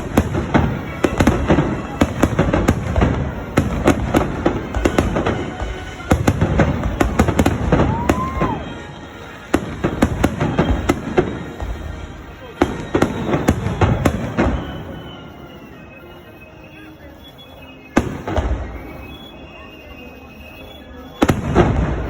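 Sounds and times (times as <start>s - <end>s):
fireworks cracking and banging: 0.0s - 22.0s
music playing: 0.0s - 22.0s.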